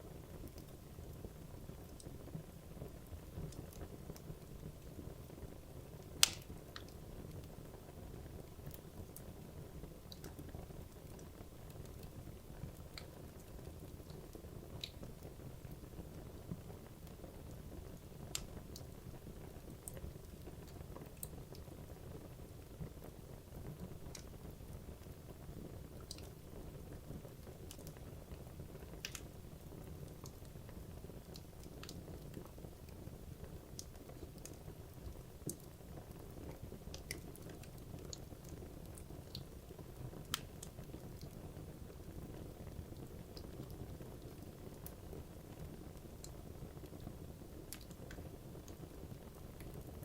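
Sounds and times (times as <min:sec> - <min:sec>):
logs burning with crackles and pops: 0:00.0 - 0:50.0.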